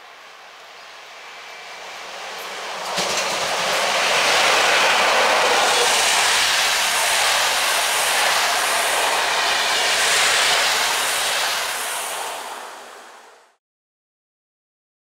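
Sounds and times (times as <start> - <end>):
train wheels on rails: 0.0 - 13.6.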